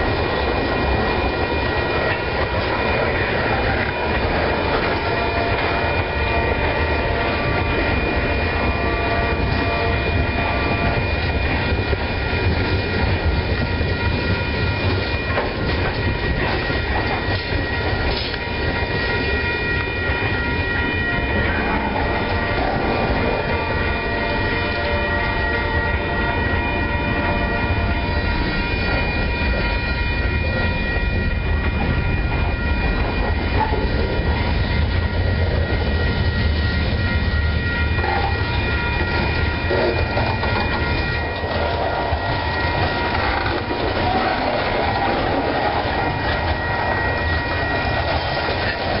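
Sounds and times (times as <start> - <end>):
high ringing tones: 0.0 - 49.0
train wheels rumbling and clacking: 0.0 - 49.0.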